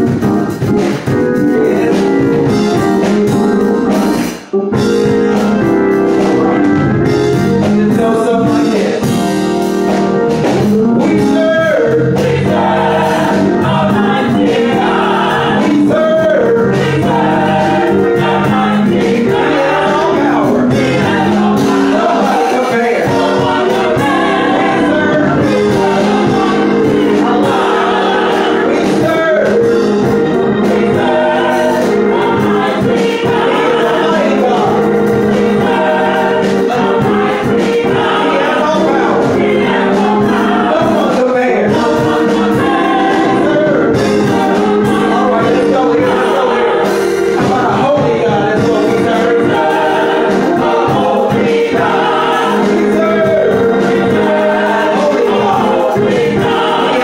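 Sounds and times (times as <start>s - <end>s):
gospel choir singing: 0.0s - 57.0s.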